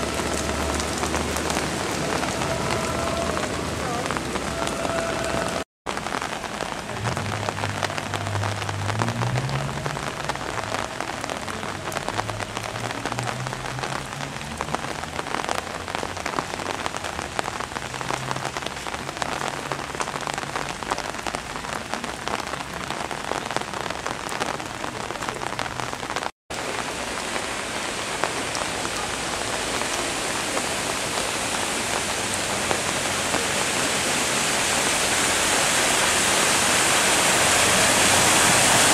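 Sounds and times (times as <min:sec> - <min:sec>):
heavy rain on wet pavement: 0:00.0 - 0:38.9
van driving through flood water: 0:00.0 - 0:38.9.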